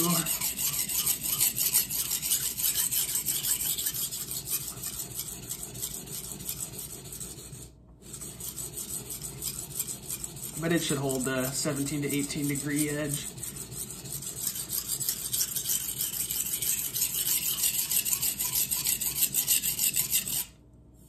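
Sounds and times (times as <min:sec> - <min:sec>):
knife scraping on whetstone: 0:00.0 - 0:20.5.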